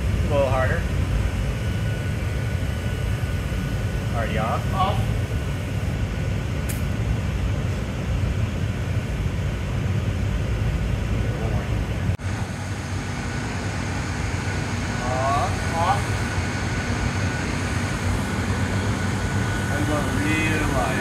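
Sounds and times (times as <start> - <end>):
fans and furnace burners roaring: 0.0 - 21.0.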